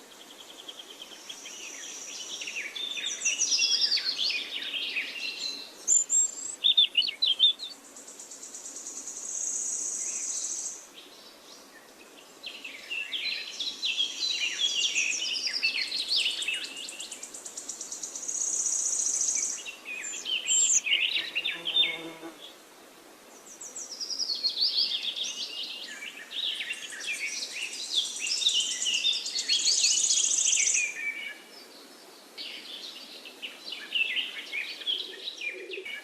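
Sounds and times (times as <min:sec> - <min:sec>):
songbirds singing: 0:00.0 - 0:22.6, 0:23.3 - 0:36.0.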